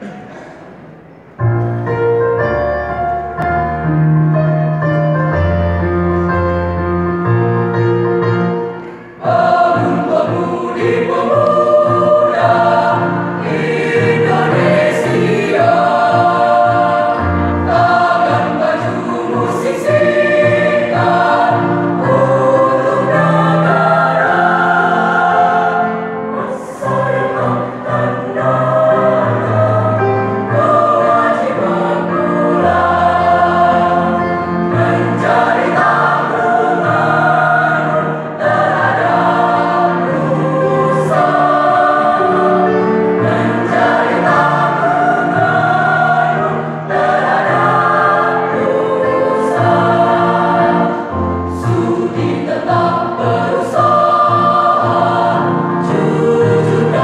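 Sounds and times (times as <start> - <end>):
mixed choir singing in parts: 7.6 - 57.0.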